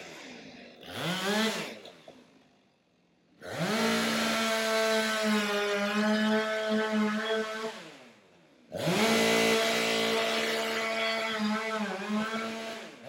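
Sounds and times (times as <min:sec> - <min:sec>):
chainsaw revving: 0:00.0 - 0:02.3, 0:03.4 - 0:13.0
chainsaw cutting log: 0:00.0 - 0:02.4, 0:03.4 - 0:13.0.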